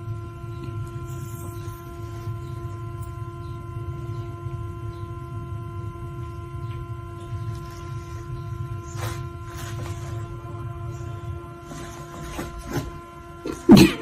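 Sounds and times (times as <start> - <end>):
steady pitched hum: 0.0 - 14.0.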